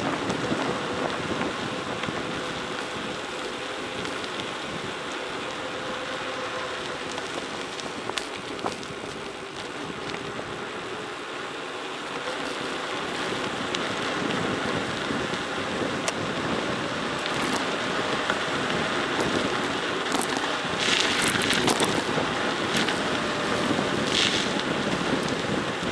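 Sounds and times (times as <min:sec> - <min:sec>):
wind on microphone: 0:00.0 - 0:11.0, 0:12.2 - 0:25.9
bike tyres rolling on gravel: 0:00.0 - 0:25.9.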